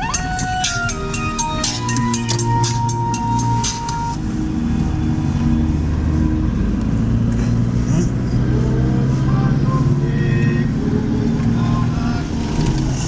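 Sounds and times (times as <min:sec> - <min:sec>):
background music: 0:00.0 - 0:13.0
car engine and road hum: 0:00.0 - 0:13.0.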